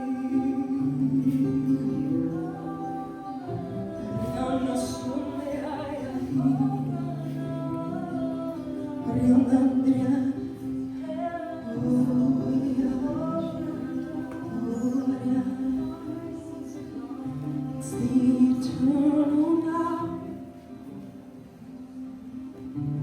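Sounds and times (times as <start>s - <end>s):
person singing wordless notes: 0.0s - 20.6s.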